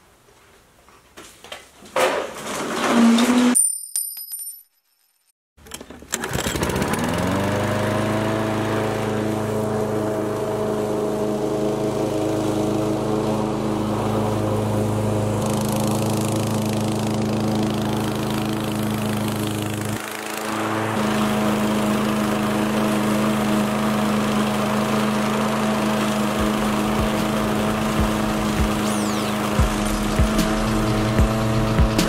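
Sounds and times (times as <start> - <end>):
lawn mower engine cutting grass: 5.6 - 32.0.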